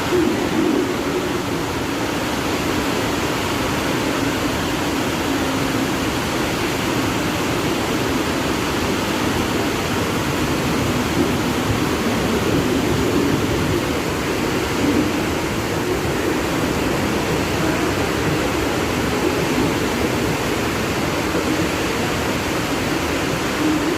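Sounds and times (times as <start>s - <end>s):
train running rushing noise: 0.0s - 23.9s.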